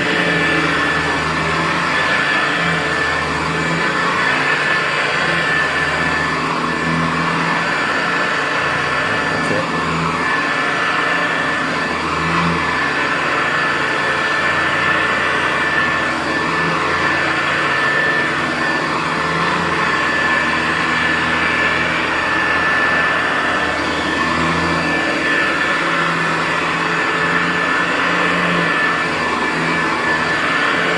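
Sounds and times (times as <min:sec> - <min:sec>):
vacuum cleaner whining on carpet: 0:00.0 - 0:30.9.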